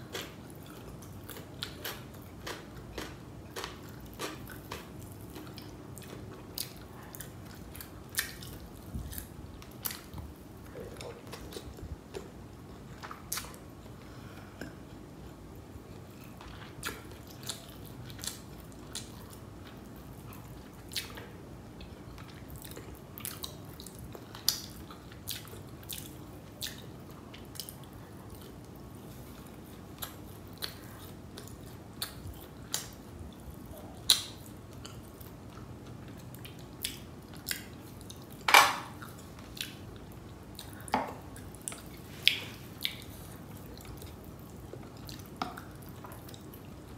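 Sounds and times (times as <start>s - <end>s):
chewing and wet mouth sounds: 0.0s - 46.9s.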